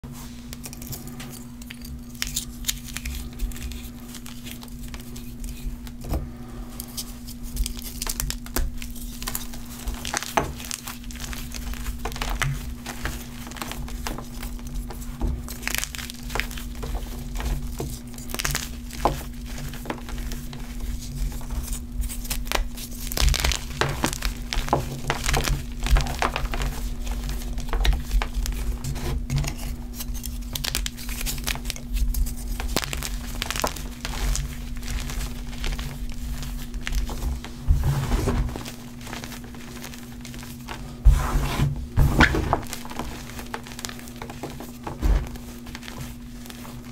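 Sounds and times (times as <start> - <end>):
chalk crunching and crackling: 0.1 - 46.9.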